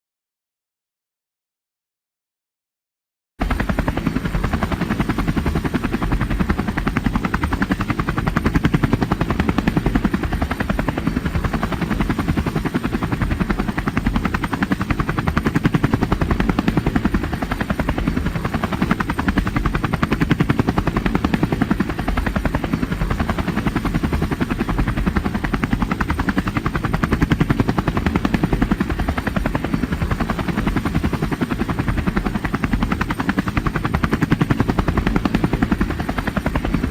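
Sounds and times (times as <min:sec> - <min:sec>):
helicopter rotor chopping: 0:03.4 - 0:36.9.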